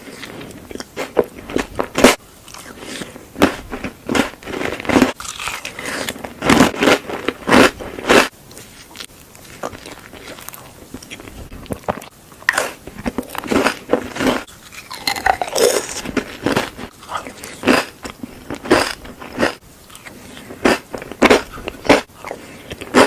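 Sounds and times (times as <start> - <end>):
person chewing crisp food: 0.0 - 23.0.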